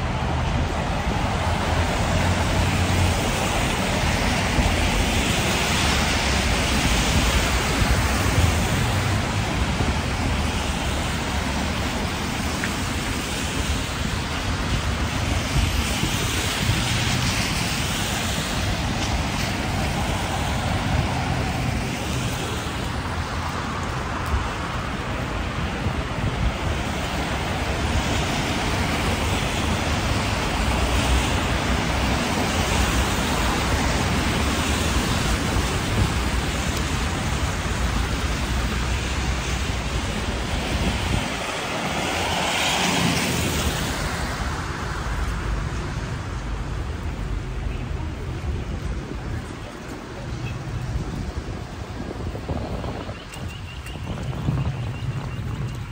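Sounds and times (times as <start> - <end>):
cars passing on wet road: 0.0 - 55.9
wind on microphone: 0.0 - 55.9.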